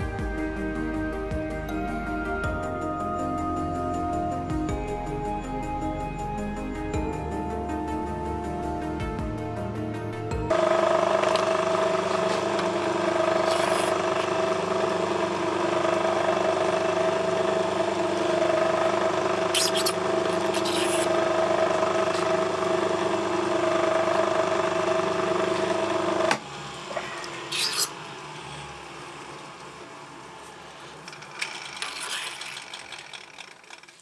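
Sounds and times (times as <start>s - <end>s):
electric machine motor humming: 0.0s - 34.0s.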